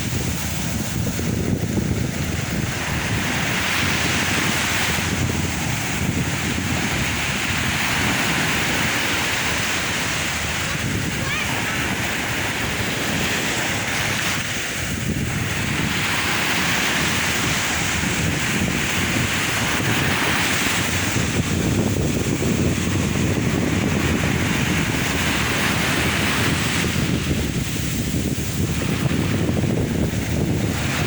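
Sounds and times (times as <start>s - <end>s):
sea waves washing onto shore: 0.0s - 31.0s
wind buffeting microphone: 0.0s - 31.0s.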